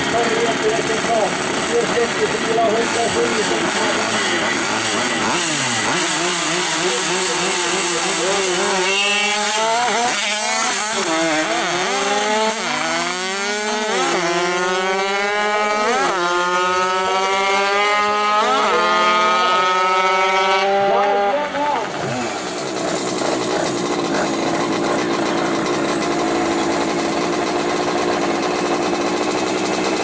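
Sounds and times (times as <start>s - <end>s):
steady engine note: 0.0s - 30.0s
two-stroke mopeds accelerating: 0.0s - 30.0s.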